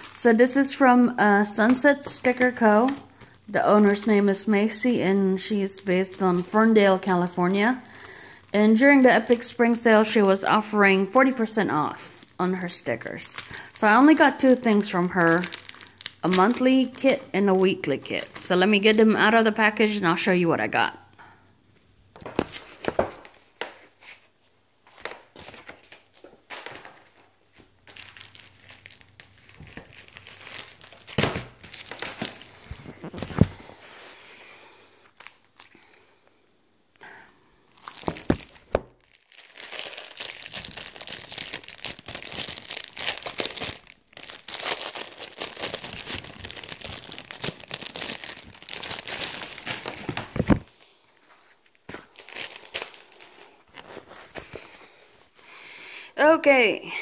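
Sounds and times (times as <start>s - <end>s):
packaging crinkling and tearing: 0.0s - 0.8s, 1.4s - 19.8s, 24.9s - 34.0s, 35.0s - 36.0s, 37.7s - 55.0s.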